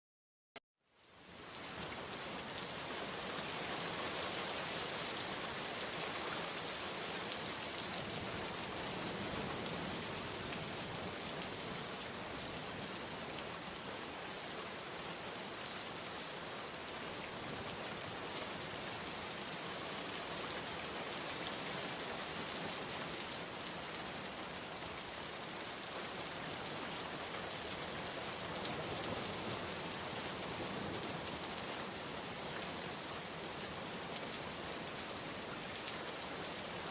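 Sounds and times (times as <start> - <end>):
steady rain falling: 0.9 - 36.9.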